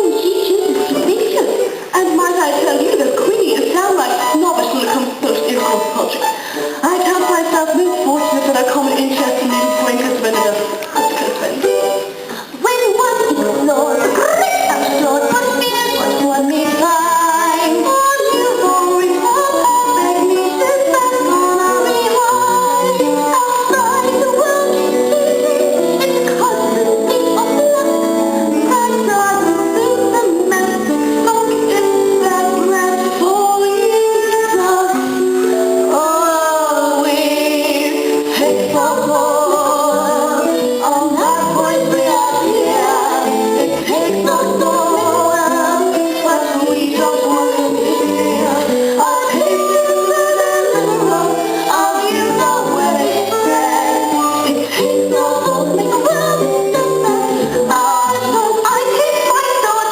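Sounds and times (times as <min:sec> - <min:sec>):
instrumental accompaniment: 0:00.0 - 0:59.9
cast singing: 0:02.6 - 0:59.9.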